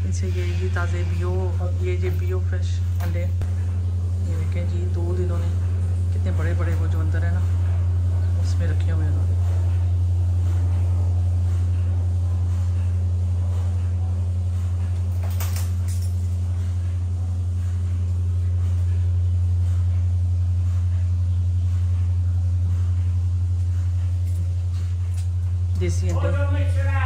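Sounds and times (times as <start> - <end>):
loud low hum: 0.0 - 27.0.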